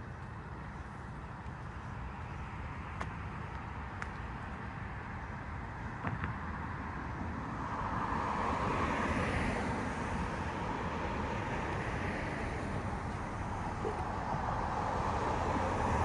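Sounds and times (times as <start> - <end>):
street traffic rushing: 0.0 - 16.0.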